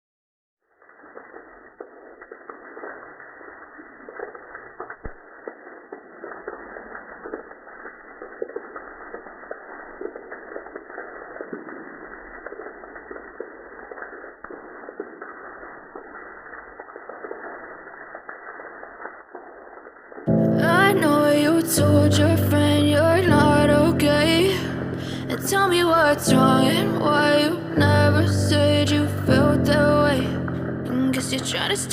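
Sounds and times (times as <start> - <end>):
muffled rain falling: 0.6 - 31.9
raindrop impacts: 0.6 - 31.9.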